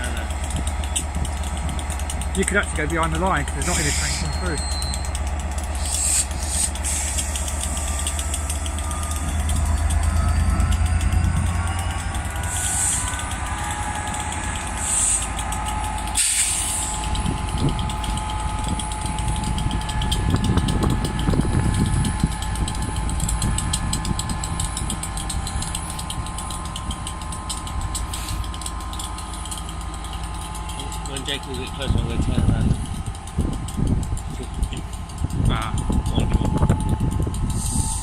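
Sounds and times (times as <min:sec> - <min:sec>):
locomotive engine idling: 0:00.0 - 0:38.0.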